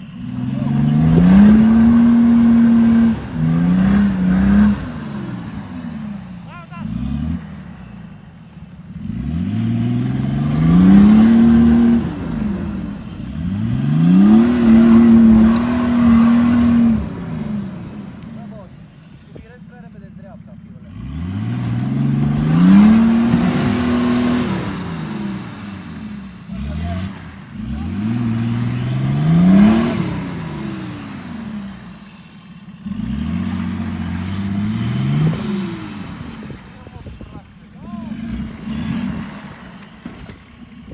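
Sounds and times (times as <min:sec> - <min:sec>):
diesel engine revving hard: 0:00.0 - 0:40.9.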